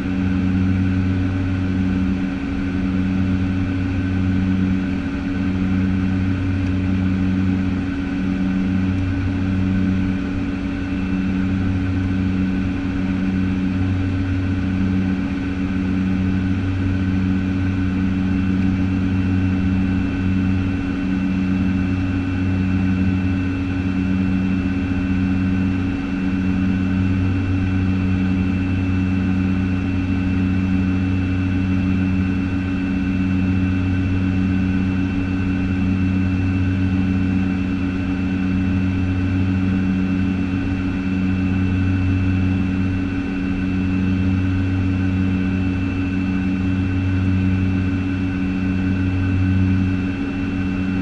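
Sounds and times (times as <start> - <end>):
thin high engine whine: 0.0 - 51.0
throbbing propeller hum: 0.0 - 51.0
turboprop engines droning: 0.0 - 51.0.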